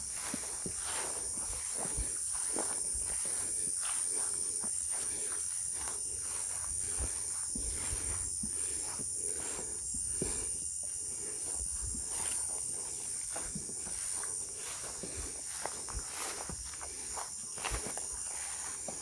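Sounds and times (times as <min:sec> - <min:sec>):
footsteps through dry vegetation: 0:00.0 - 0:19.0
night insects trilling: 0:00.0 - 0:19.0.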